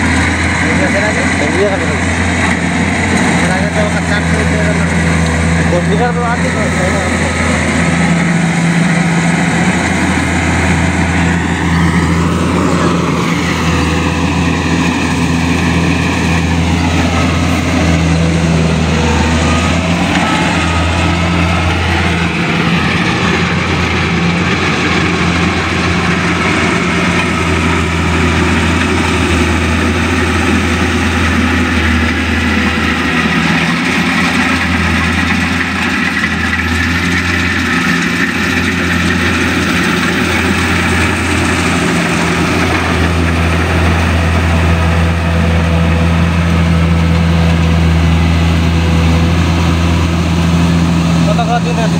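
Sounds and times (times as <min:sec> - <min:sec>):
combine harvester engine running: 0:00.0 - 0:51.9.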